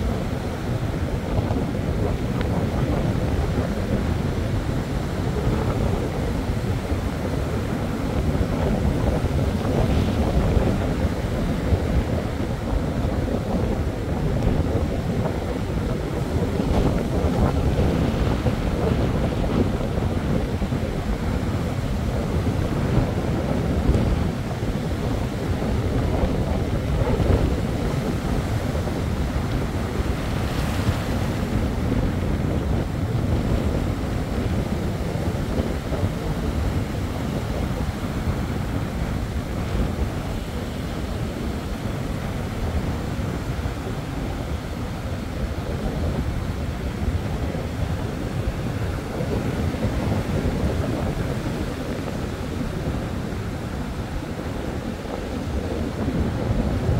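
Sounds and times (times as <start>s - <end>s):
surf breaking on beach: 0.0s - 56.9s
wind buffeting microphone: 0.0s - 56.9s.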